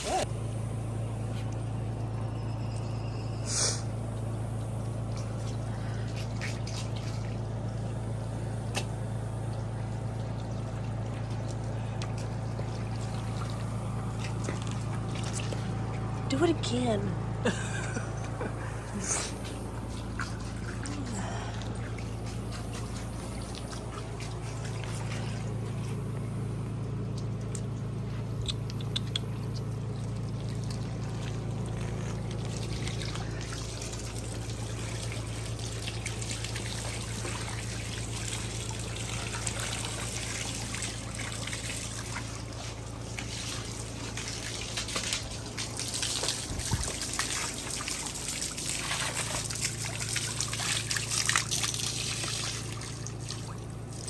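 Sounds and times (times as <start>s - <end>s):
garden hose water splashing: 0.0s - 54.0s
steady low hum: 0.0s - 54.0s.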